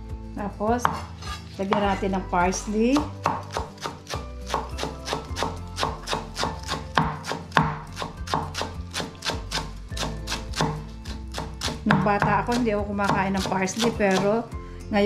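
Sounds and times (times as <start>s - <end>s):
background music: 0.0s - 15.0s
knife chopping on wooden board: 0.8s - 14.3s.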